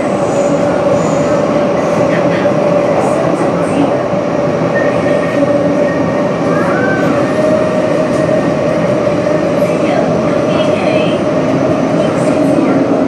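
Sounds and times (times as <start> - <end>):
rumble of train wheels: 0.0 - 13.0.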